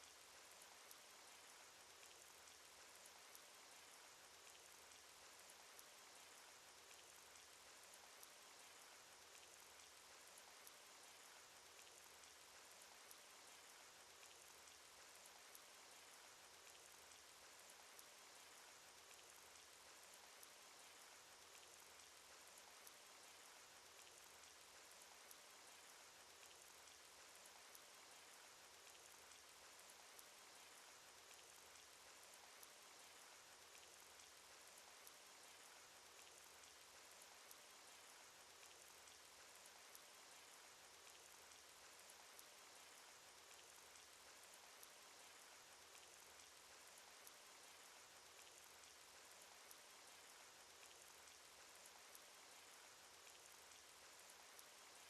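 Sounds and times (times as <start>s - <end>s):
raindrop ticks: 0.0s - 55.0s.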